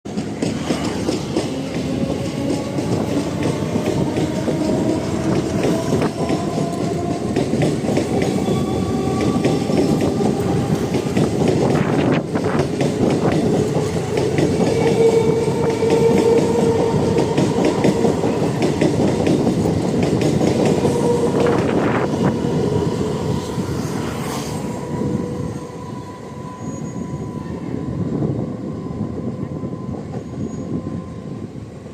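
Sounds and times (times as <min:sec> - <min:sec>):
train wheels clattering: 0:00.1 - 0:25.8.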